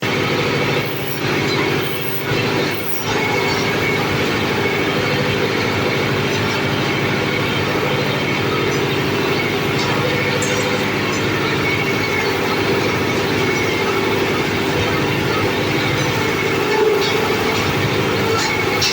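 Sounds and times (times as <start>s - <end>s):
nut splitting machine clattering: 0.8s - 18.9s.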